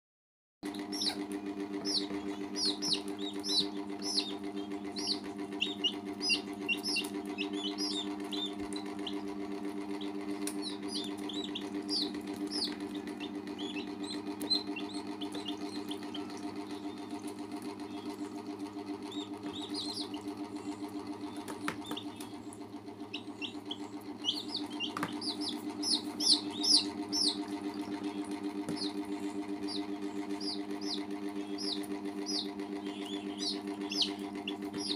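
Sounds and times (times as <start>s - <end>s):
baby chicks peeping: 0.6s - 34.9s
low hum: 0.7s - 34.9s.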